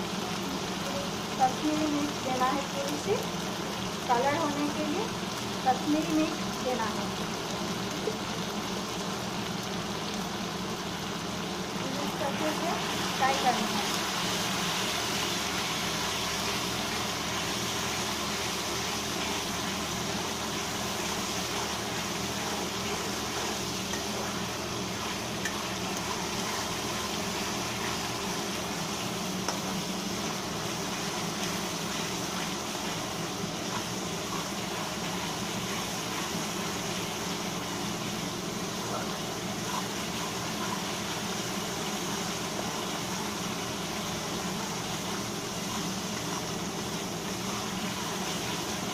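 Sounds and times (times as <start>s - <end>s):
paste sizzling and bubbling in oil: 0.0s - 48.9s.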